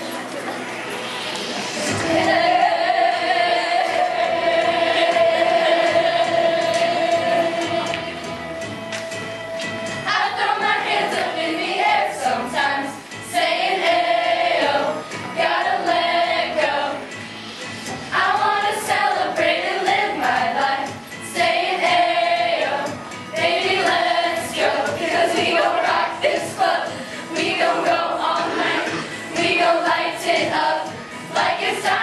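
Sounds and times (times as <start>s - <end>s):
children's chorus singing pop songs: 0.0s - 32.0s
musical accompaniment: 0.0s - 32.0s.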